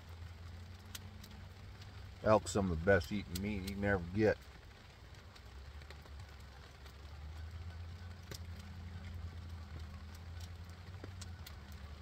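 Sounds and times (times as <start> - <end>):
distant low engine drone: 0.0 - 12.0
wood fire crackling: 0.0 - 12.0.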